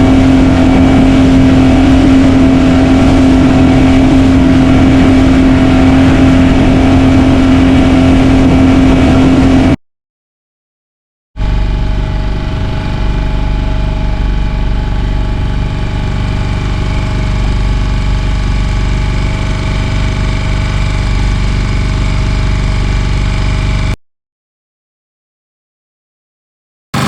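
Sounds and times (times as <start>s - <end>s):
boat engine droning: 0.0s - 9.8s, 11.4s - 24.0s.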